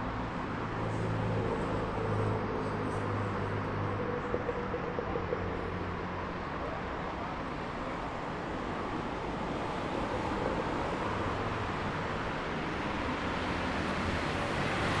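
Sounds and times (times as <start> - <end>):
car engines and tyre noise: 0.0 - 15.0
vehicle engine hum: 0.0 - 15.0.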